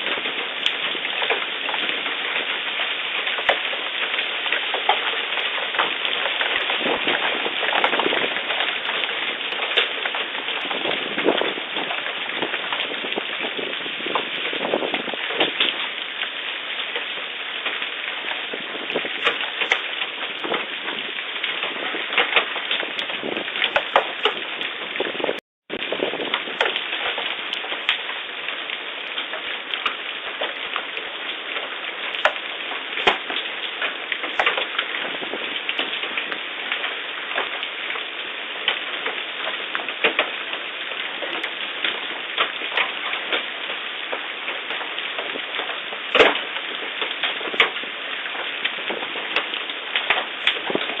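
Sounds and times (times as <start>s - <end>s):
hailstones striking hard surfaces: 0.0s - 15.8s, 17.6s - 25.3s, 25.9s - 37.6s, 44.2s - 51.0s
rain and hail downpour: 0.0s - 51.0s.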